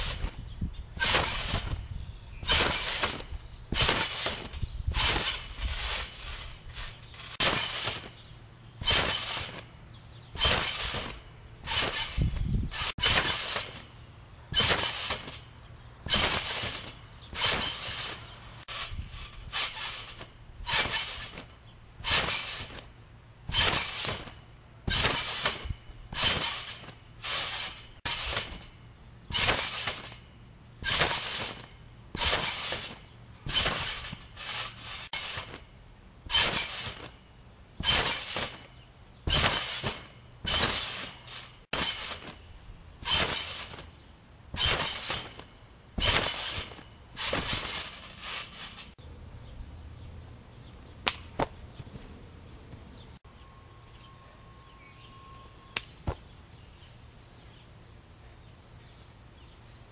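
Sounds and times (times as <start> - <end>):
trampoline springs creaking: 0.0 - 49.2, 50.0 - 57.6.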